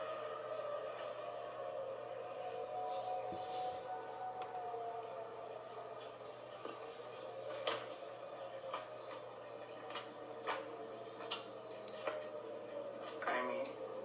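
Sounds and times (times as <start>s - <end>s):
distant tornado warning siren: 0.0s - 14.0s.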